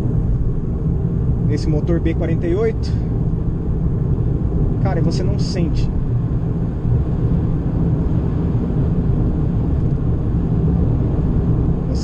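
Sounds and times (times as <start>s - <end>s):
car engine hum: 0.0s - 12.0s
tyre and road noise: 0.0s - 12.0s.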